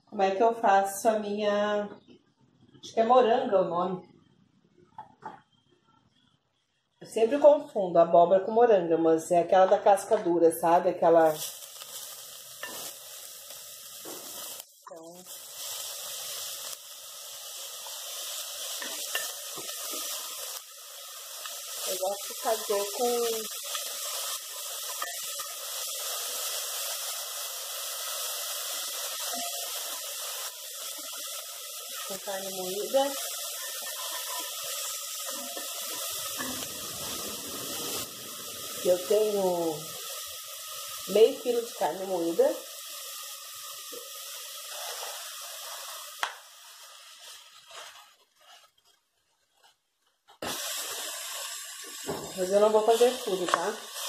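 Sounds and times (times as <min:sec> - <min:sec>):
onion and garlic sizzling in oil: 0:08.2 - 0:54.0.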